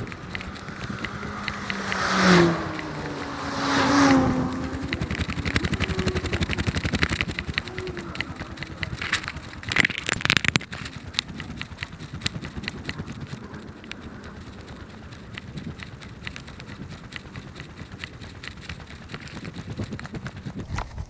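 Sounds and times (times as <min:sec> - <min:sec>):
road vehicles passing by: 0:00.0 - 0:10.1, 0:10.7 - 0:20.5
rapid ticking clatter: 0:00.0 - 0:21.0.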